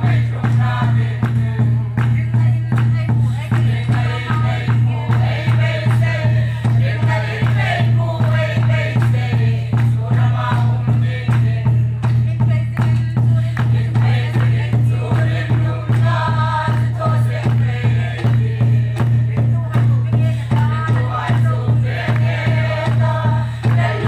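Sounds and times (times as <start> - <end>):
congregation singing a hymn: 0.0 - 1.8, 3.3 - 11.8, 13.6 - 19.5, 20.2 - 24.0
barrel drum beating: 0.0 - 24.0.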